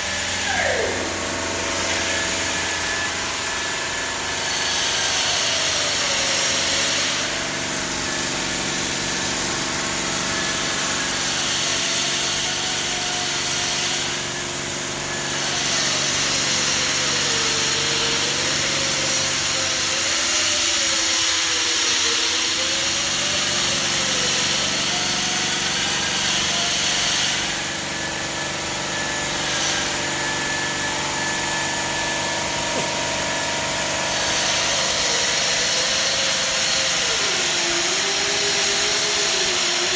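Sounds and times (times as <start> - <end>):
stone saw cutting granite: 0.0 - 39.9.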